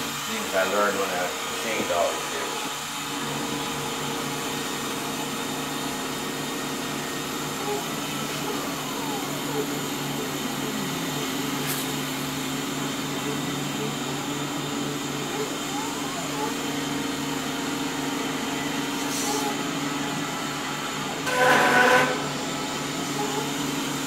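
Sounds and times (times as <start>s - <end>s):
mill motor cutting wood: 0.0s - 24.0s.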